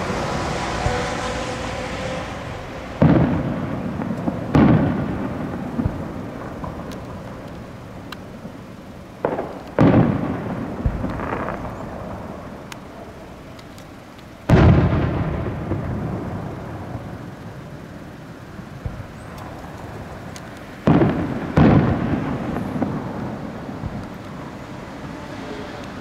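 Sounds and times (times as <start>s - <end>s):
fireworks shells booming: 0.0s - 26.0s.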